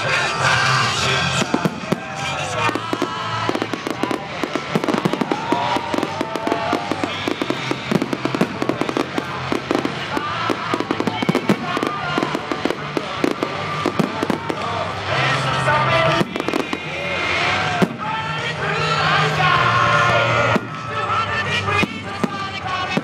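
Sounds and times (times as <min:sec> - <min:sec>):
music playing: 0:00.0 - 0:23.0
fireworks bangs and crackles: 0:00.1 - 0:23.0.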